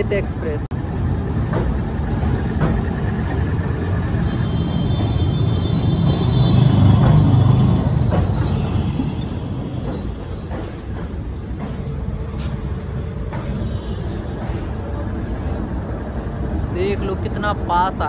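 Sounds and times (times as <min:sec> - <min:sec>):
train coaches rumbling and clattering: 0:00.0 - 0:18.0.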